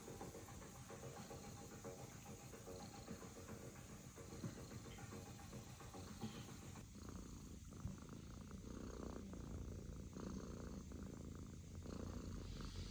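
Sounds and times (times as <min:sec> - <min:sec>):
kitten purring: 0:00.0 - 0:12.9.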